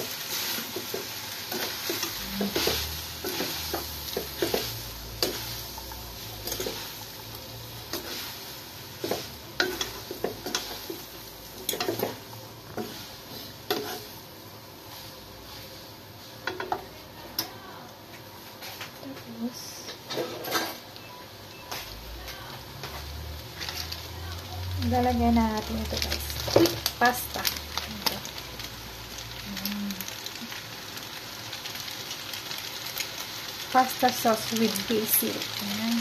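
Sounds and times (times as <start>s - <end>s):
frying sizzle: 0.0s - 36.0s.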